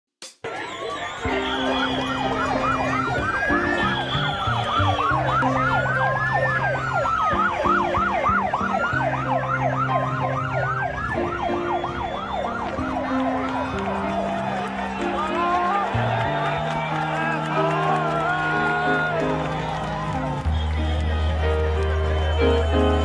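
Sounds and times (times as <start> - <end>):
siren wail rising and falling: 0.5 - 23.0
sirens yelping rapidly: 0.5 - 23.0.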